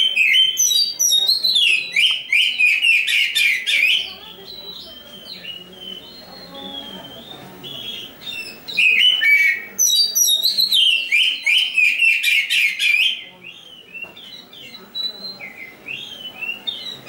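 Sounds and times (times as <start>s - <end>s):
bird singing whistles and warbles: 0.0s - 17.0s.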